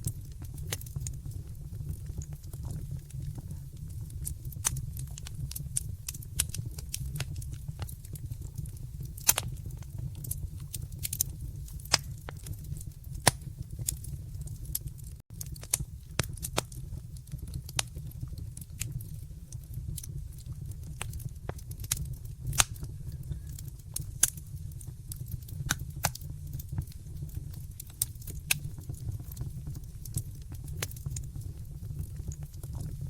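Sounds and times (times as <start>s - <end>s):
low rumble of flames: 0.0s - 33.0s
wood fire crackling: 0.0s - 33.0s.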